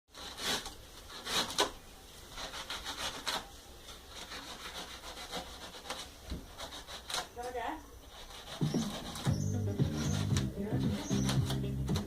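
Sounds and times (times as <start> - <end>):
tool scraping foam: 0.1 - 12.0.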